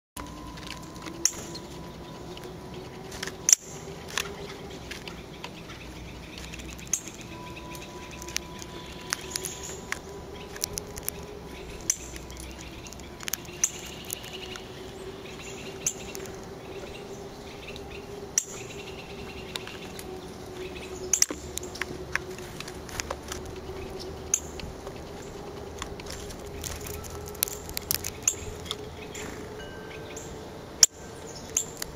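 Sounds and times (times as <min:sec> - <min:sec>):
bird cracking seeds: 0:00.2 - 0:17.0, 0:17.6 - 0:29.6, 0:31.4 - 0:31.9
steady low hum: 0:00.2 - 0:31.9.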